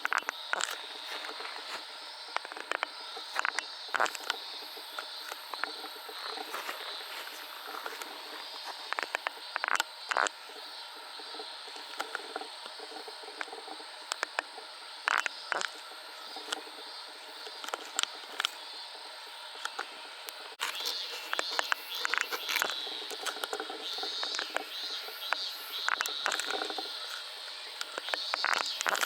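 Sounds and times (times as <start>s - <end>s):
outdoor background hum: 0.0s - 29.0s.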